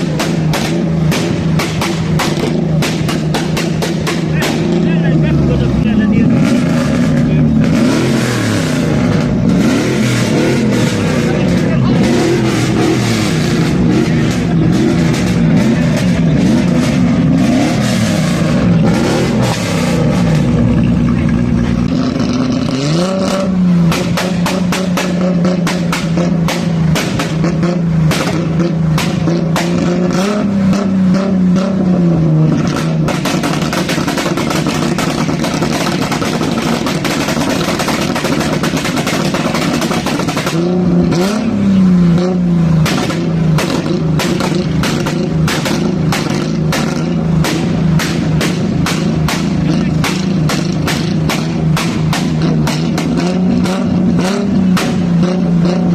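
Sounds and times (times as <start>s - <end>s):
car engine revving loudly: 0.0s - 55.9s
sharp exhaust crackles: 0.0s - 55.9s.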